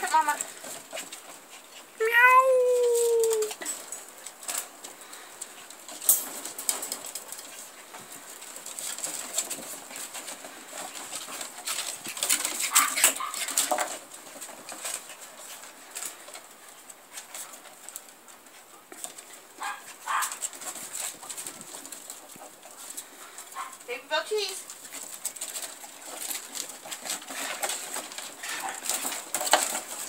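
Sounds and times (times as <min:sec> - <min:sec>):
paws scuffling on wooden deck: 0:00.0 - 0:02.1, 0:02.8 - 0:30.0.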